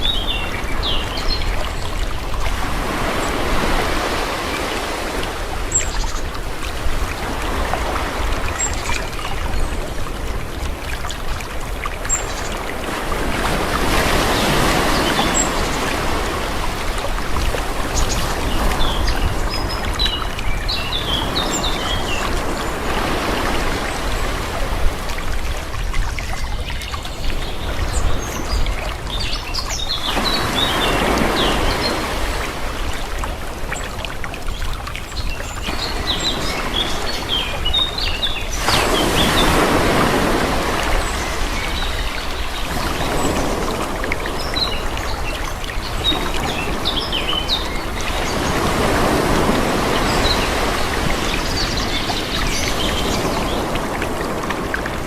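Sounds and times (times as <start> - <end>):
calm sea waves washing: 0.0 - 55.0.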